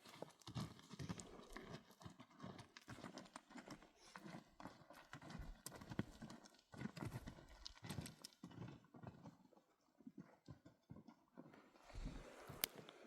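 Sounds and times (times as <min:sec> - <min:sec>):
donkey hooves clopping: 0:00.0 - 0:12.2.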